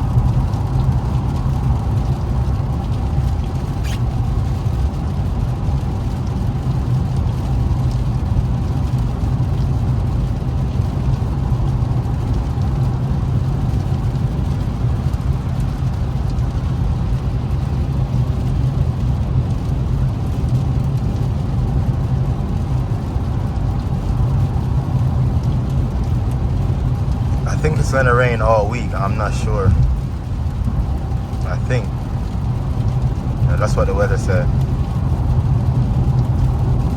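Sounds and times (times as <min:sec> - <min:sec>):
car engine drone: 0:00.0 - 0:36.9
road noise on wet road: 0:00.0 - 0:36.9.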